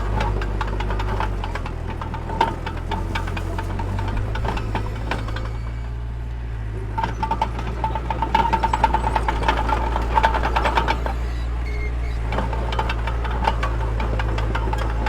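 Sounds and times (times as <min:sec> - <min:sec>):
rapid metallic clatter: 0:00.0 - 0:06.0, 0:06.8 - 0:15.0
diesel engine running: 0:00.0 - 0:15.0.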